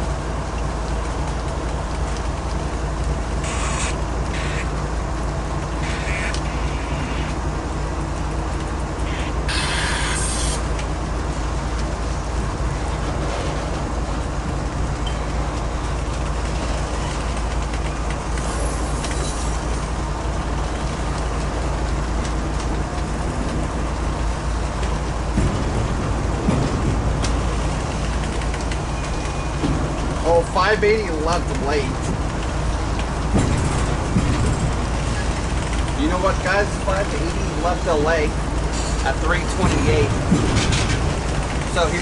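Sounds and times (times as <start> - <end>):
freight train rumbling on rails: 0.0 - 42.0.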